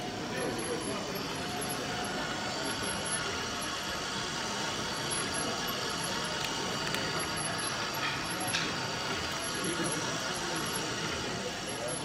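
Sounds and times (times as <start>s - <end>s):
mechanical background noise: 0.0s - 12.0s.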